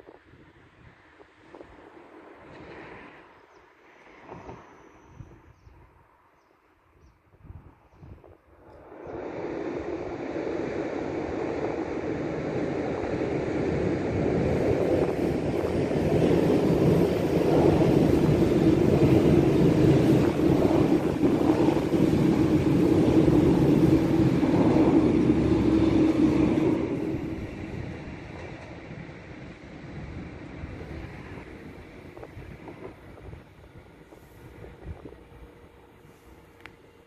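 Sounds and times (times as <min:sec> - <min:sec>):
diesel railcar engine and wheels: 0:00.0 - 0:06.3, 0:08.6 - 0:37.0.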